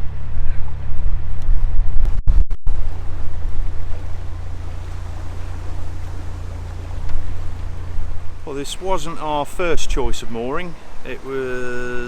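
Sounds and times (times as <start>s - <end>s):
diesel engine running at low revs: 0.0s - 12.0s
wind buffeting microphone: 0.0s - 12.0s.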